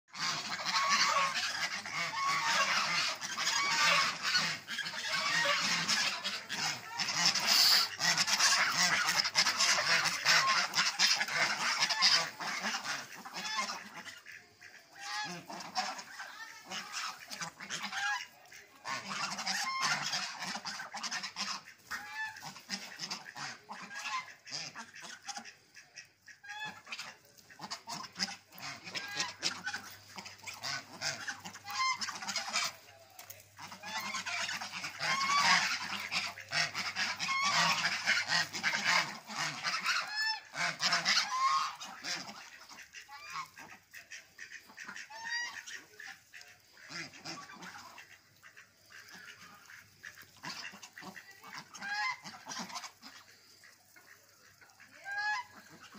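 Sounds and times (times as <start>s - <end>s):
geese honking: 0.1s - 55.9s.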